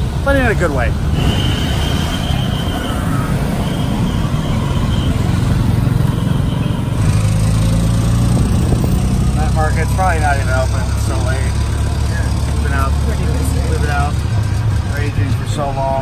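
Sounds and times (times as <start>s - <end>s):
scooters and cars passing: 0.0s - 16.0s
small engine droning: 1.1s - 16.0s.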